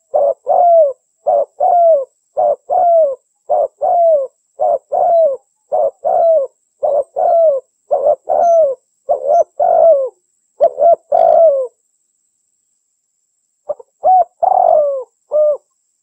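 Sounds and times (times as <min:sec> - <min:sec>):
dove cooing: 0:00.0 - 0:11.8, 0:13.7 - 0:15.7.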